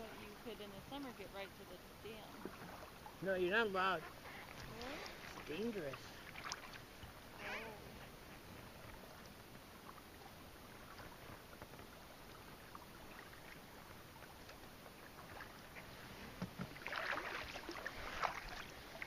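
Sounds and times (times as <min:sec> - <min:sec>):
paddle splashing water: 0:00.0 - 0:19.0.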